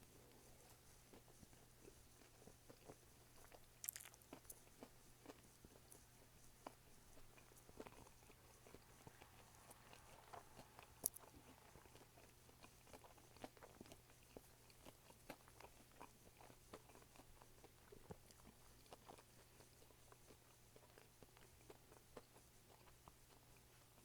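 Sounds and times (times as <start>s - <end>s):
person chewing food: 0.3s - 24.0s.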